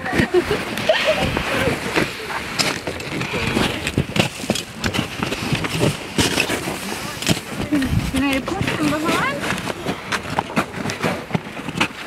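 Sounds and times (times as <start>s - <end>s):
footsteps on ice: 0.0s - 12.0s
camera scuffing and rustling: 0.1s - 12.0s.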